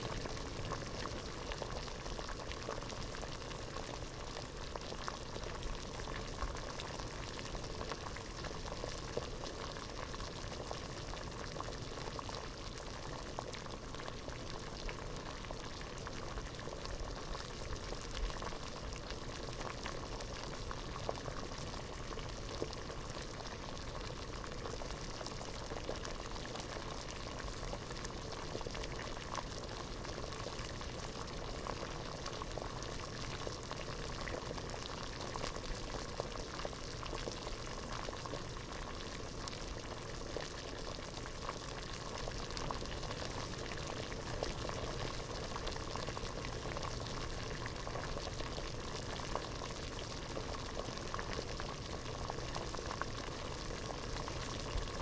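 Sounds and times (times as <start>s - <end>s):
water boiling in a pot: 0.0s - 55.0s.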